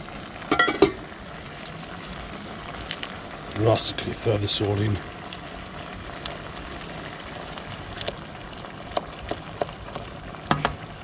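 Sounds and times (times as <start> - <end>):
broth simmering in a pan: 0.0 - 11.0.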